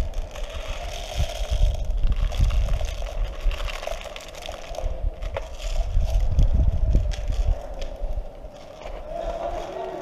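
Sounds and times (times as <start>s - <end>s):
plastic pellets pouring and rattling: 0.0s - 8.2s.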